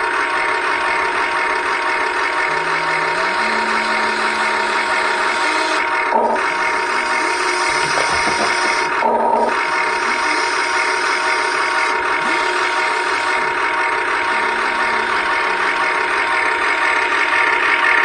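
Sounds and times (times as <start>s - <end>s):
toy excavator motors whirring: 0.0s - 18.0s.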